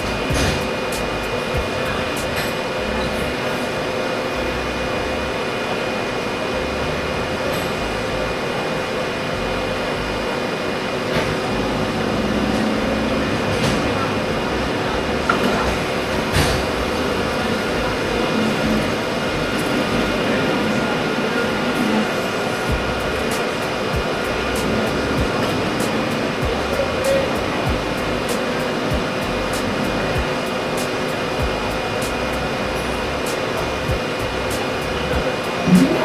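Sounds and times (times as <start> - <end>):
machine running: 0.0 - 36.0
steady tones: 0.0 - 36.0.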